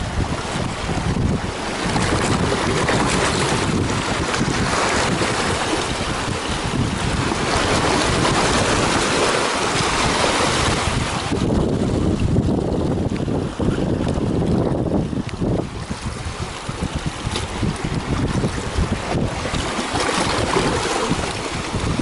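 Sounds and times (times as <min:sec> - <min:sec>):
sea surf washing over rocks: 0:00.0 - 0:22.0
wind buffeting microphone: 0:00.0 - 0:22.0.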